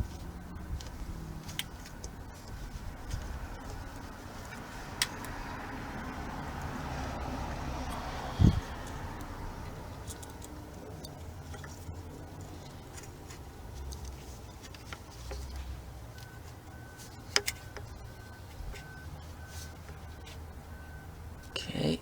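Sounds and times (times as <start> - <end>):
tools clicking and tapping on engine: 0.0 - 21.5.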